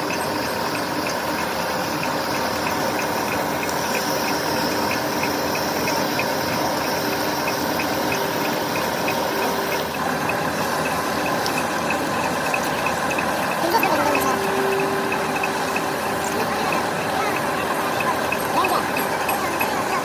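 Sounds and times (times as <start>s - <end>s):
light ticking: 0.0s - 20.0s
metalworking machinery running: 0.0s - 20.0s.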